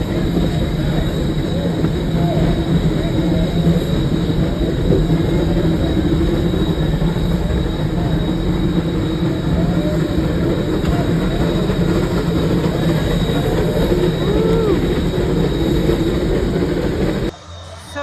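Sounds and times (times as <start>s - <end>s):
high whine: 0.0s - 18.0s
train rumbling on track: 0.0s - 18.0s.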